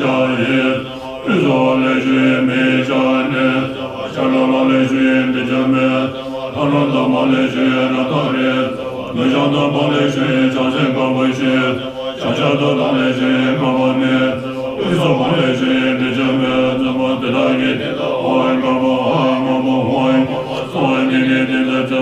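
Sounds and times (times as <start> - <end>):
monks chanting: 0.0 - 22.0.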